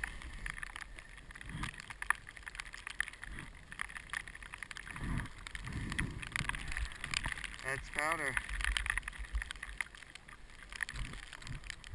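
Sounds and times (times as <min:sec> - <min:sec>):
small irregular clicks: 0:00.0 - 0:11.9.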